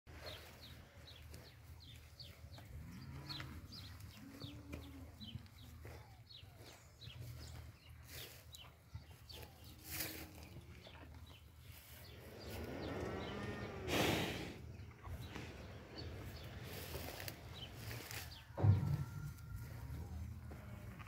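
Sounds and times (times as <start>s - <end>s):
birds chirping: 0.1s - 20.9s.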